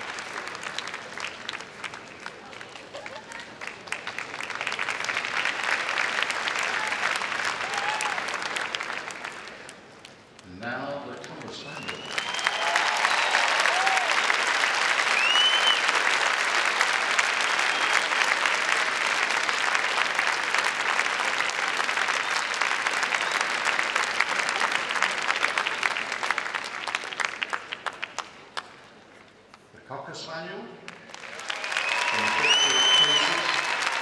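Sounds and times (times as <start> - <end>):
crowd applauding: 0.0 - 10.3, 11.1 - 29.1, 30.9 - 34.0.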